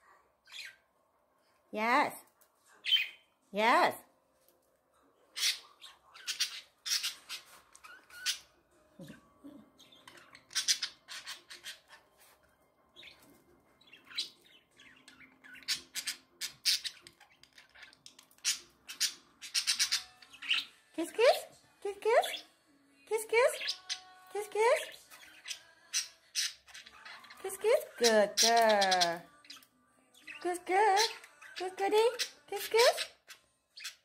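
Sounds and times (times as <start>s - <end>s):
budgerigars chirping and squawking: 0.4s - 0.8s, 2.8s - 3.2s, 5.3s - 21.4s, 23.4s - 34.0s.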